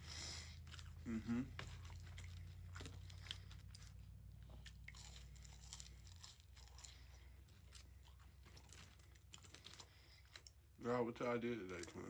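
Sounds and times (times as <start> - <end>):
crunchy food chewing: 0.0 - 12.0
faint low hum: 0.0 - 12.0.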